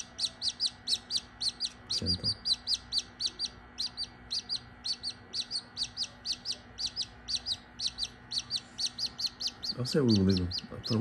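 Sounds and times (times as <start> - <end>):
chick peeping: 0.0 - 11.0.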